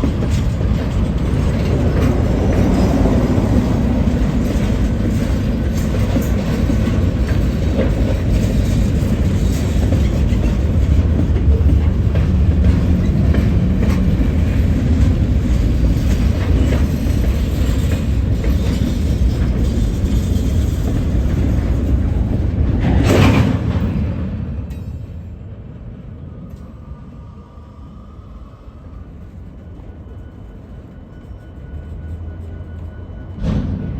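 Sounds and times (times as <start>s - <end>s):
diesel locomotive rumble: 0.0s - 31.0s.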